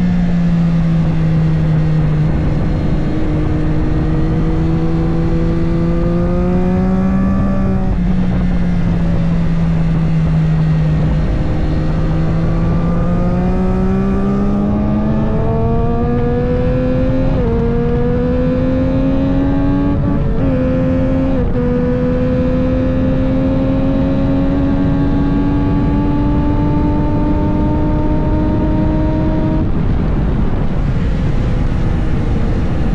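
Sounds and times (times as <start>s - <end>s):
race motorcycle engine revving: 0.0s - 30.0s.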